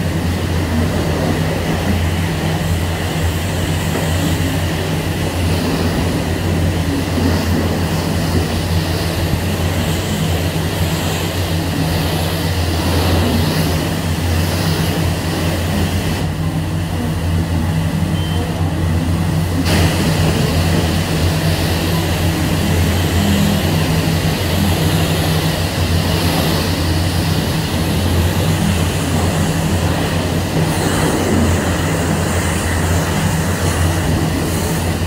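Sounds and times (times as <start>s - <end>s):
high-pressure spray hissing: 0.0s - 16.4s, 19.6s - 35.0s
pump hum: 0.0s - 35.0s.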